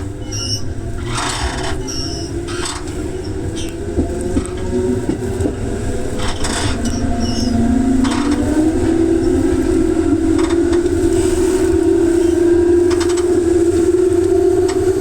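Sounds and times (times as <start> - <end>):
train motor whine: 0.0 - 15.0
train rumble: 0.0 - 15.0.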